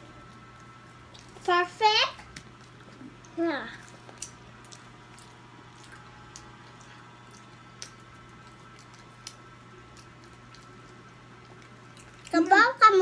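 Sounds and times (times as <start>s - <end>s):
child chewing food: 0.0s - 13.0s
steady low hum: 0.0s - 13.0s.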